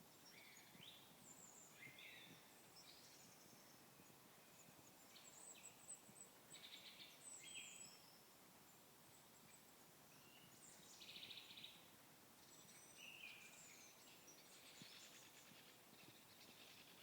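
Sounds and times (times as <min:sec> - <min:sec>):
faint songbirds chirping: 0:00.0 - 0:17.0.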